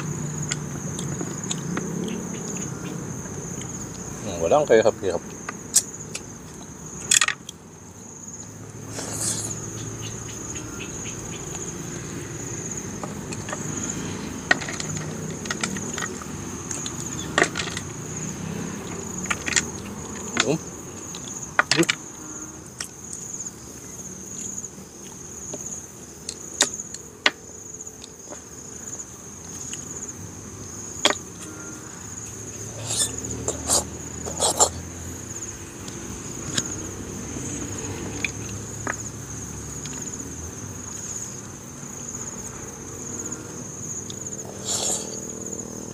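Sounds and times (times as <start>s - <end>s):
high-pitched insect trill: 0.0s - 45.9s.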